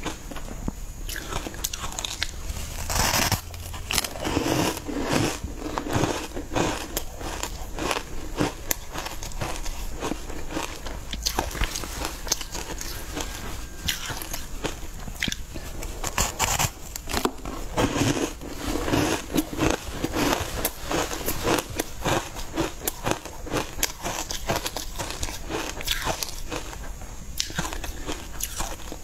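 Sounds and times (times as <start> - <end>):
person chewing soft cake: 0.0 - 29.0.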